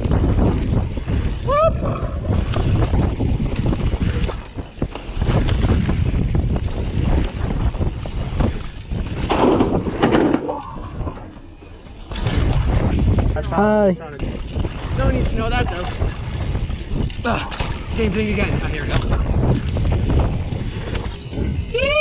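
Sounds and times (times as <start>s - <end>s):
bike rattling on dirt: 0.0s - 22.0s
wind buffeting microphone: 0.0s - 22.0s.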